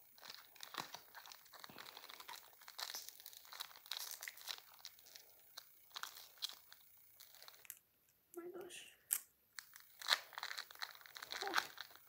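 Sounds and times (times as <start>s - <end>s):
foil wrapper crinkling and tearing: 0.0s - 7.8s, 9.1s - 12.0s.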